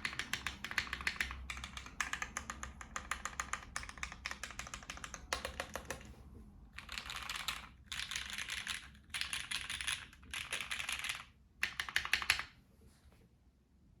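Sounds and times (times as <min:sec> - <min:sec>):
fast typing on mechanical keyboard: 0:00.0 - 0:06.2, 0:06.8 - 0:12.6.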